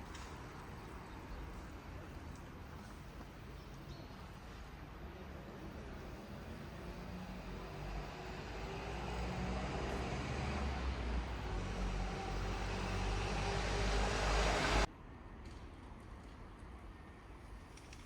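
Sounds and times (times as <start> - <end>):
engine rumble: 0.0 - 14.9.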